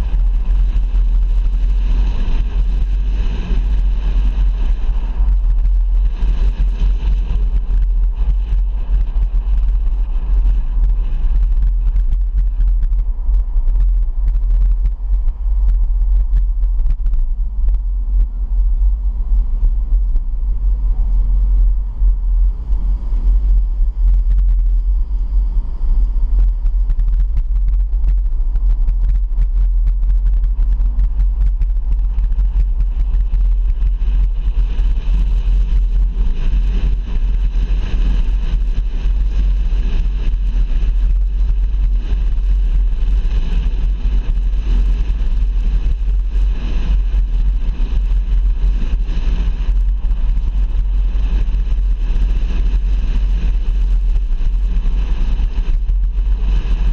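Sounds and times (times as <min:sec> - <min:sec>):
road and wind noise: 0:00.0 - 0:56.9.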